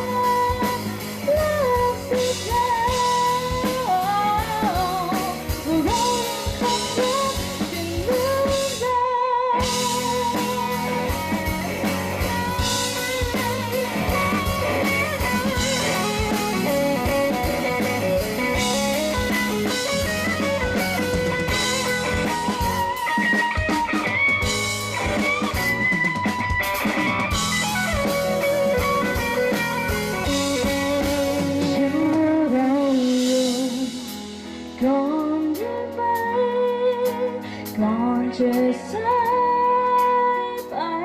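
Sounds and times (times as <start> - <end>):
drum kit beat: 0.0 - 41.0
guitar melody: 0.0 - 41.0
live pop-rock band playing: 0.0 - 41.0.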